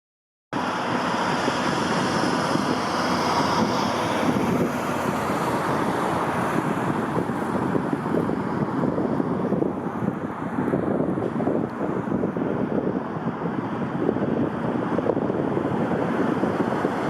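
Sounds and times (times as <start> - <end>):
high engine whine: 0.6 - 17.0
wind buffeting microphone: 0.6 - 17.0.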